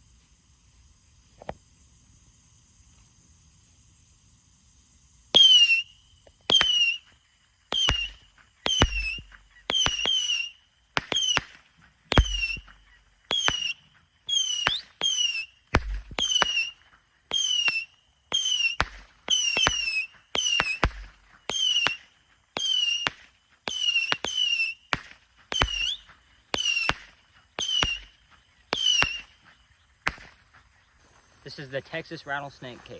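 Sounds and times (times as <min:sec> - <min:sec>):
whistling rockets firing: 0:00.6 - 0:32.4.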